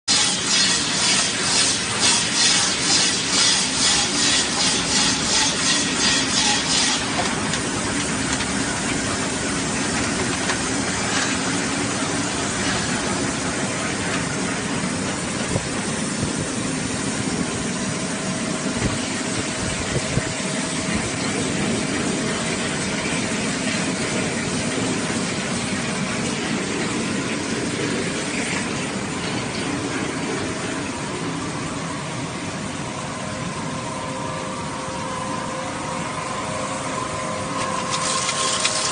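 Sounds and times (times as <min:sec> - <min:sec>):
machine whirring with hiss: 0:00.1 - 0:38.9.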